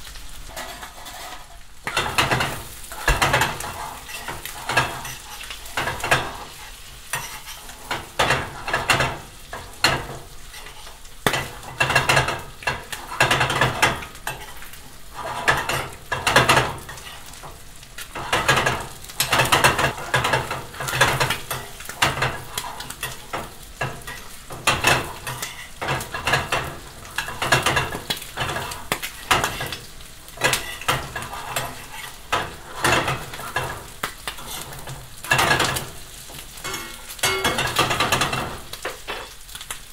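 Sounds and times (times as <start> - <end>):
butter sizzling in frying pan: 0.0 - 39.9
metal spoon scraping pan: 0.4 - 39.4.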